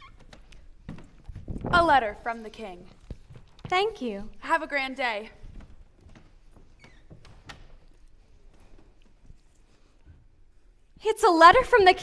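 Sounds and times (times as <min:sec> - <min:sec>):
footsteps on stage floor: 0:00.1 - 0:10.6.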